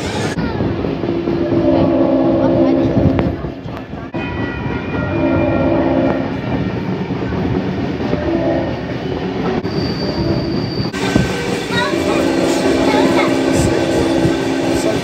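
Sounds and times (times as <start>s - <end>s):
train wheels rumbling and clattering: 0.0s - 15.0s.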